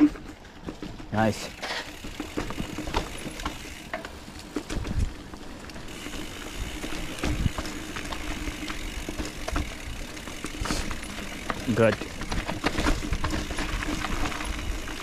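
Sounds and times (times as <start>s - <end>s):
bike clicks and rattles: 0.0s - 15.0s
bike tyres rumbling on dirt: 0.0s - 15.0s.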